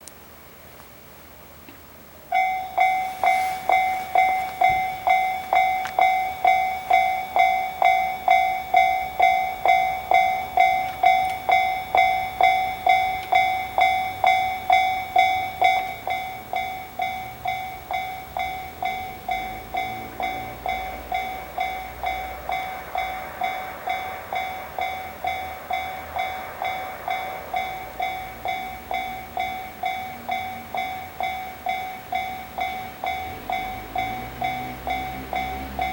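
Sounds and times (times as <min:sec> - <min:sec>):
train rumble: 0:00.2 - 0:35.9
level-crossing warning bell: 0:02.2 - 0:35.9.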